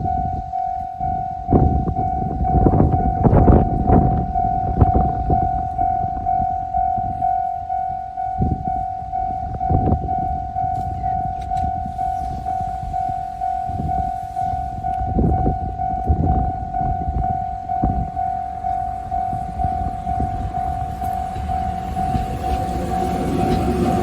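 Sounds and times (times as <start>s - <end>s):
level-crossing warning bell: 0.0s - 24.0s
low rumbling noise: 0.0s - 24.0s.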